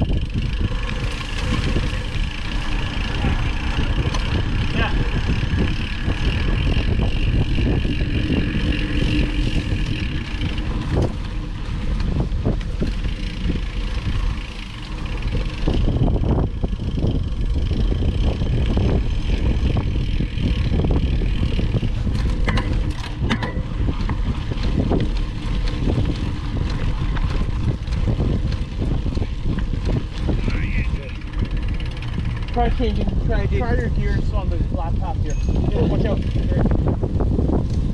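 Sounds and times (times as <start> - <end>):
bike rattling over dirt trail: 0.0 - 37.9
wind buffeting microphone: 0.0 - 37.9.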